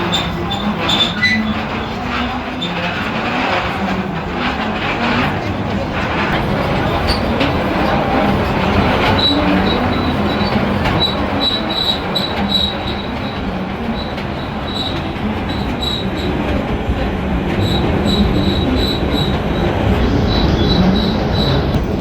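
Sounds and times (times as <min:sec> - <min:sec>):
high wheel squeaks: 0:00.0 - 0:16.6, 0:17.4 - 0:22.0
train rumbling: 0:00.0 - 0:22.0.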